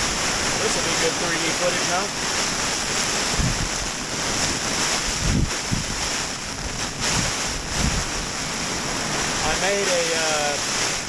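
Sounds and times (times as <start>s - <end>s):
low thumps from gusts: 0.0s - 10.0s
gusting wind: 0.0s - 11.0s
rain beating on tent: 0.0s - 11.0s.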